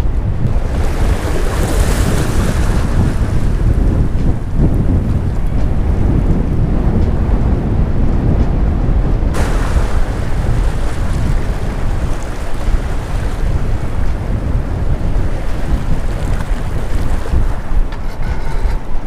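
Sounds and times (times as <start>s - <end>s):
waves splashing against pier: 0.0s - 19.0s
wind buffeting microphone: 0.0s - 19.0s.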